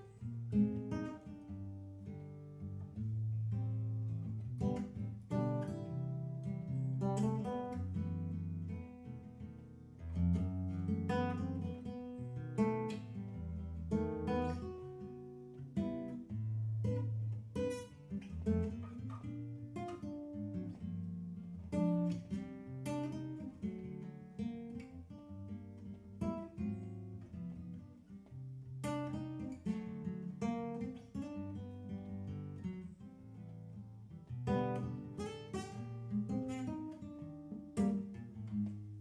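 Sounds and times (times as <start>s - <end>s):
fingerstyle acoustic guitar: 0.0s - 39.0s.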